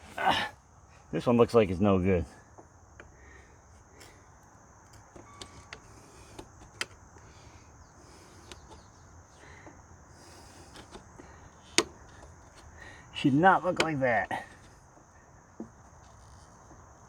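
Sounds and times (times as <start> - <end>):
high hum of insects: 0.0 - 17.0.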